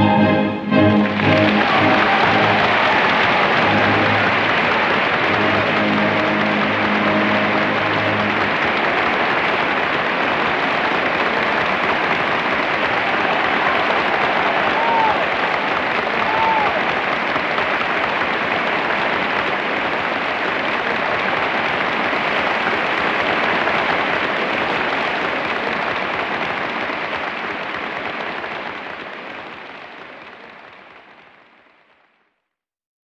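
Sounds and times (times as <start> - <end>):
audience applauding: 0.0 - 32.3.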